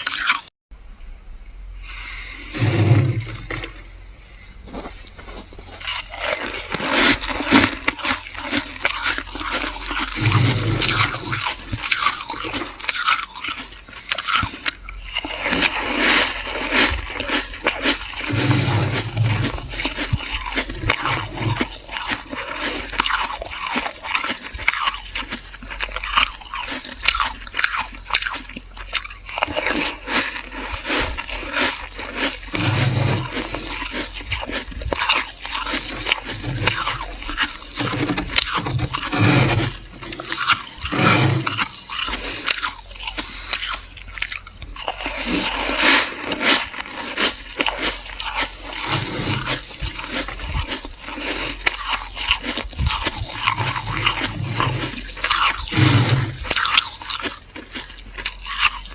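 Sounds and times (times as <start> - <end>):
metal spoon scraping frost: 2.2 - 24.1, 29.3 - 34.4, 35.0 - 43.8, 44.8 - 57.3.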